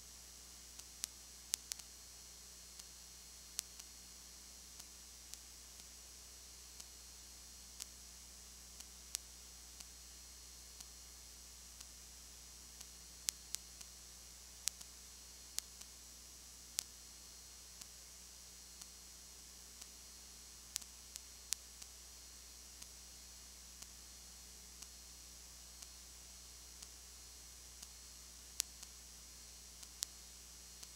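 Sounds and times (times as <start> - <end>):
faint ticks: 0.0 - 30.9
recording hiss: 0.0 - 30.9.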